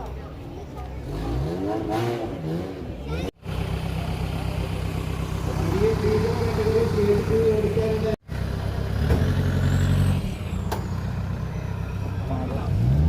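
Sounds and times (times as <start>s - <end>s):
off-road vehicle engine revving: 0.8s - 13.0s.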